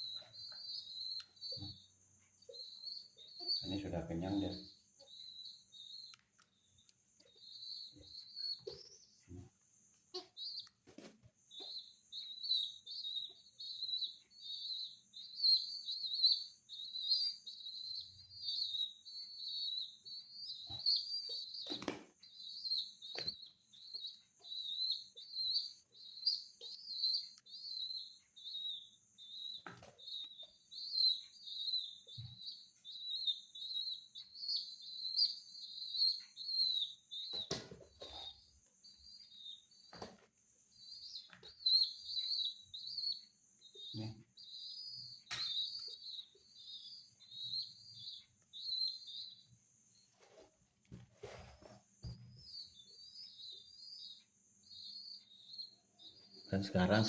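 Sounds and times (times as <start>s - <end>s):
pigeon squab squeaking: 0.0s - 9.5s, 10.1s - 50.4s, 51.2s - 57.0s.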